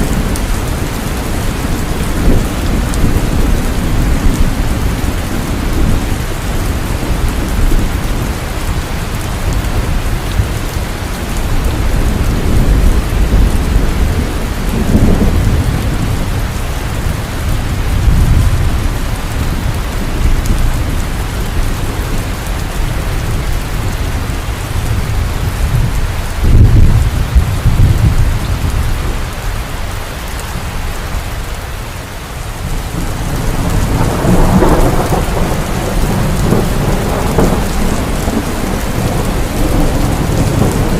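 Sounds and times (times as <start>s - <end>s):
thunder rumbling: 0.0s - 31.5s, 32.5s - 40.9s
heavy rain falling: 0.0s - 40.9s.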